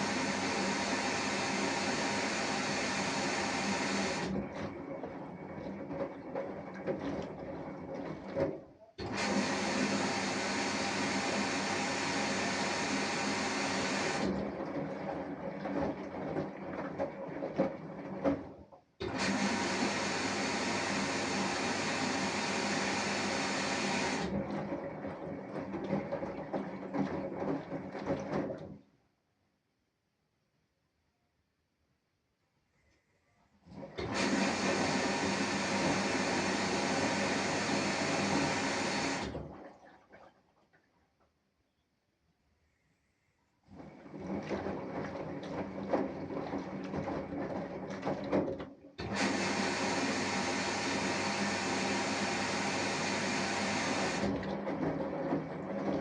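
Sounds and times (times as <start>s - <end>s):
washing machine humming: 0.0s - 28.8s, 33.6s - 40.3s, 43.7s - 56.0s.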